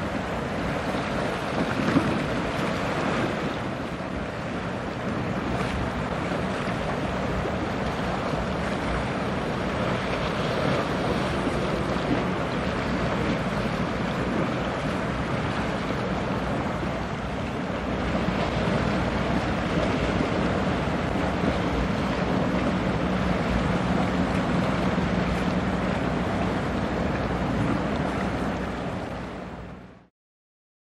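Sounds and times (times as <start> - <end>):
wind rushing across microphone: 0.0 - 29.9.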